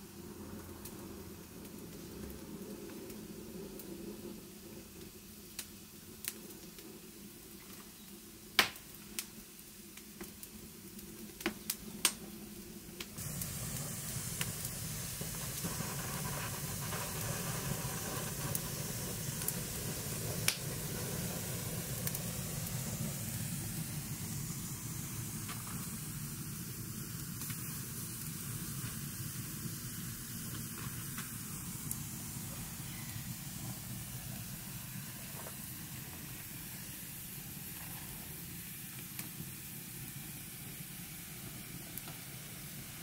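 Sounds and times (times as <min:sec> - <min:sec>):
twig fire crackling: 0:00.0 - 0:43.0.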